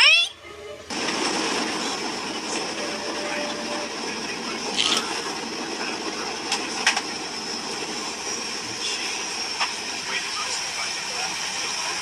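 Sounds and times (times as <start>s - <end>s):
airliner cabin engine and airflow rush: 0.9s - 12.0s.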